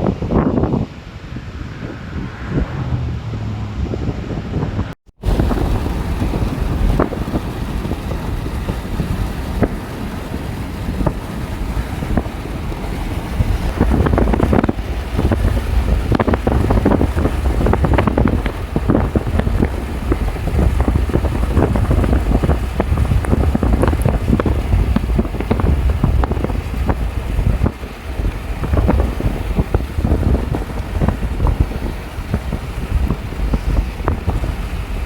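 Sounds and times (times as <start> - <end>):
storm wind buffeting microphone: 0.0 - 35.0.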